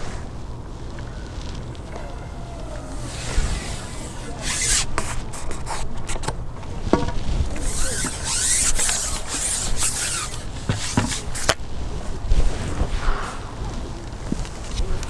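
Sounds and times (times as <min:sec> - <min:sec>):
handling noise rustling: 0:00.0 - 0:15.0
low wind rumble: 0:00.0 - 0:15.0.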